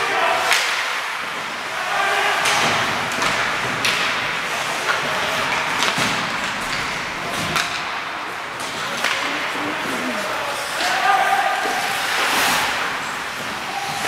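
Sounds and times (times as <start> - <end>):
puck and sticks hitting boards: 0.3 - 14.0.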